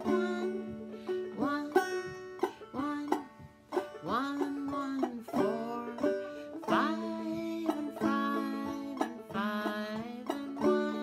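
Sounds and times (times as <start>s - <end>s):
banjo played clawhammer style: 0.0s - 11.0s.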